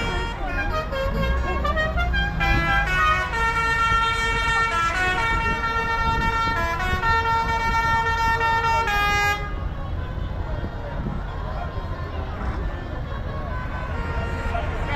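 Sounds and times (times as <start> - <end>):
musical vehicle horn tune: 0.0 - 10.4, 13.2 - 14.9
low engine rumble: 0.0 - 14.9.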